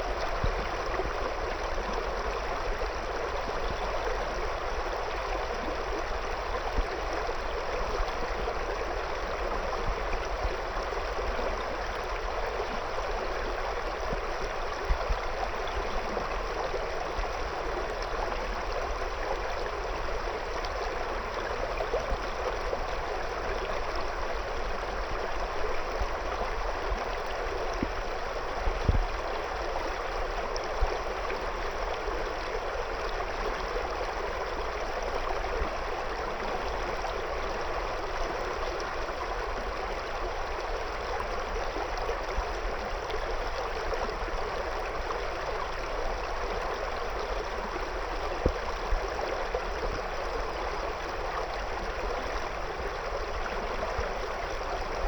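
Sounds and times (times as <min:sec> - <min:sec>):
river flowing over stones: 0:00.0 - 0:55.0.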